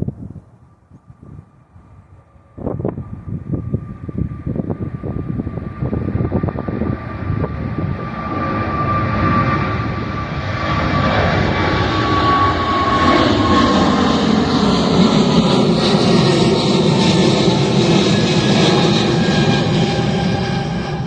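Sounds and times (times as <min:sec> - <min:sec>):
airliner engines roaring: 0:00.0 - 0:21.0
engine whine: 0:00.1 - 0:21.0.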